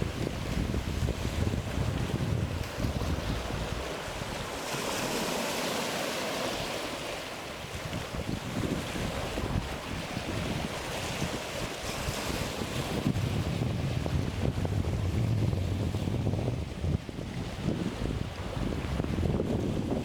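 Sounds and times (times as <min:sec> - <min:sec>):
wind buffeting microphone: 0:00.0 - 0:05.6, 0:06.5 - 0:20.0
choppy sea waves and spray: 0:00.0 - 0:20.0.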